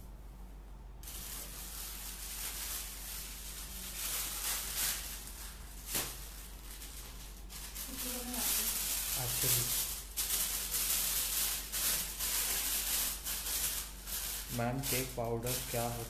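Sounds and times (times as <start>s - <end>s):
plastic bag crinkling: 1.0s - 16.0s.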